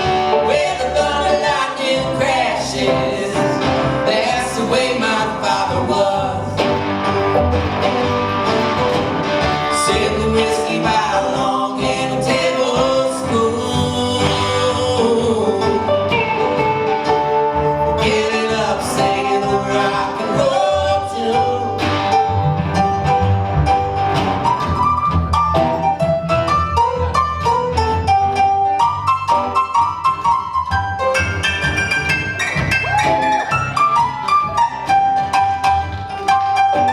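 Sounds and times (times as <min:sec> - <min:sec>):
acoustic guitar picking: 0:00.0 - 0:36.9
live country band music: 0:00.0 - 0:36.9.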